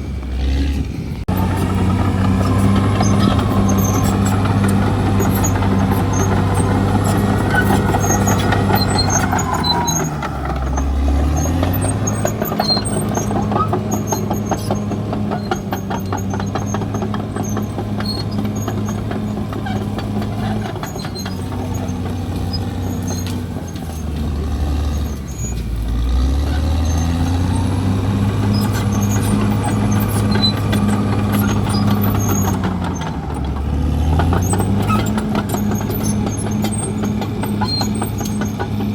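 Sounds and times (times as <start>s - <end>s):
bulldozer diesel engine lugging: 0.0s - 38.9s.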